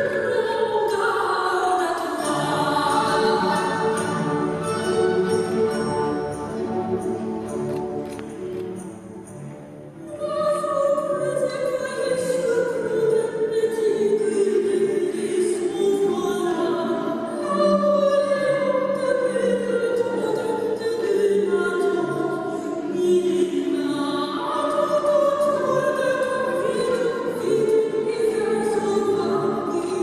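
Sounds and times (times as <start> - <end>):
classical music with singing voices: 0.0 - 30.0.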